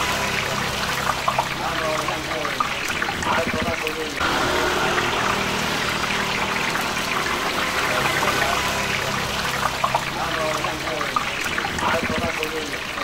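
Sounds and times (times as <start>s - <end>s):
food deep-frying in sizzling oil: 0.0s - 13.0s.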